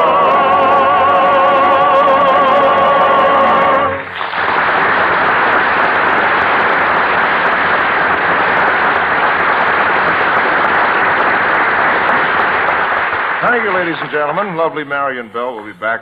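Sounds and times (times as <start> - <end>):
studio audience applauding: 0.0 - 14.8.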